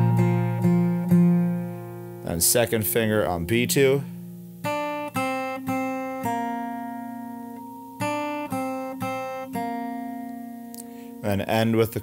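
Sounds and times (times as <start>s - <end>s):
acoustic guitar plucked notes: 0.0s - 12.0s.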